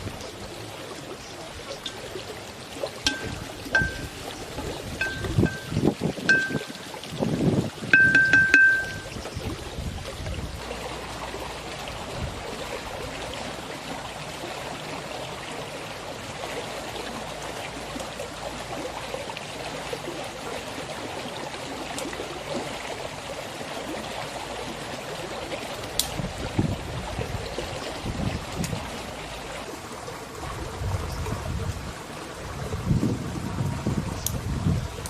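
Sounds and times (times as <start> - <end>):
stream flowing: 0.0 - 35.0.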